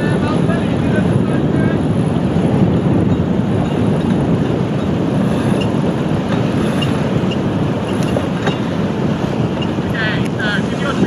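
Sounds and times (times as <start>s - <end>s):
motorboat engine rumble: 0.0s - 11.0s
water rushing: 0.0s - 11.0s
wind: 0.0s - 11.0s.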